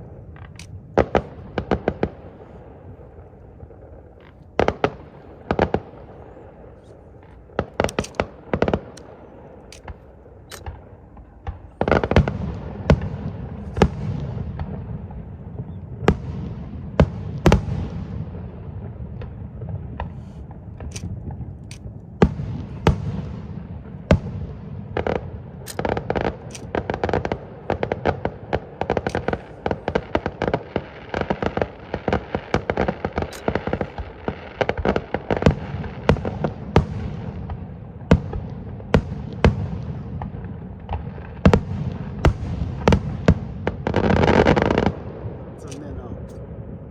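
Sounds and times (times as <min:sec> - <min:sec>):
fireworks bangs: 0:00.0 - 0:46.9
fireworks rumbling crackle: 0:00.0 - 0:46.9.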